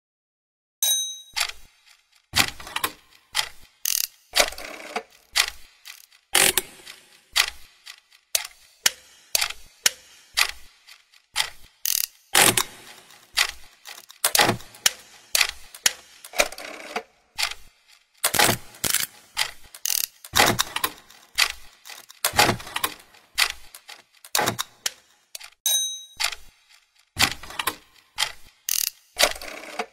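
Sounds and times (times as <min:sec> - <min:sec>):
clockwork ratchet clicking: 0:00.8 - 0:29.9.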